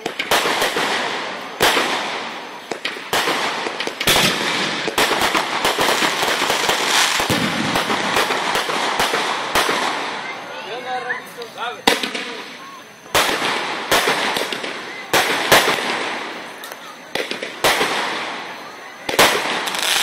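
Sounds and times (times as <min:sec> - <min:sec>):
fireworks bangs: 0:00.0 - 0:20.0
fireworks crackling pops: 0:00.0 - 0:20.0.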